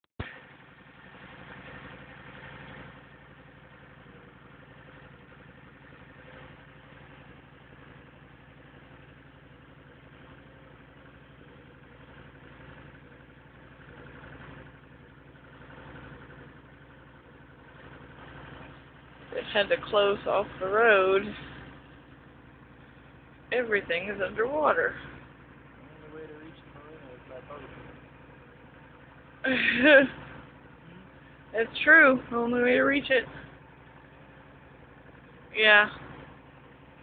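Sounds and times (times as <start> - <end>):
vehicle engine running: 0.2 - 37.0.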